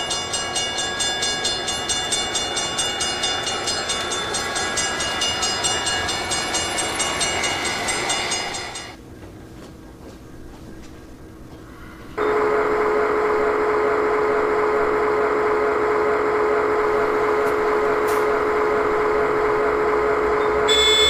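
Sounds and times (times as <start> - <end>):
railroad crossing bell ringing: 0.0 - 9.0, 12.2 - 21.0
passing train rumble: 0.0 - 21.0.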